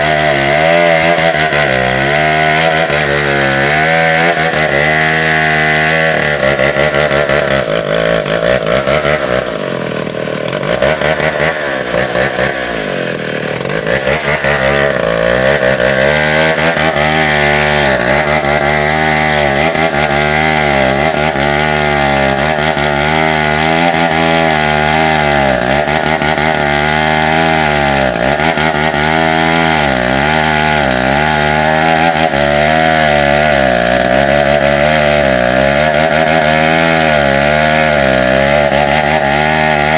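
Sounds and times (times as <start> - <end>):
chainsaw cutting hardwood: 0.0 - 39.9.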